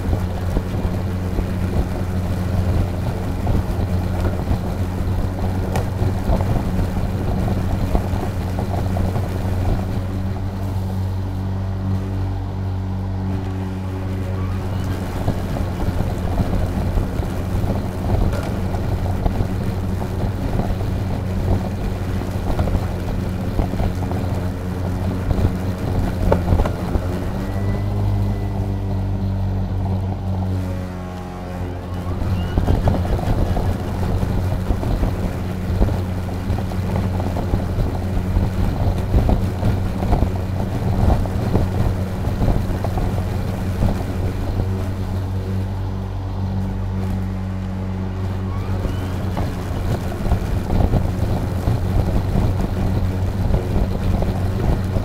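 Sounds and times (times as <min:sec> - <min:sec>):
electric lawn mower cutting grass: 0:00.0 - 0:55.0.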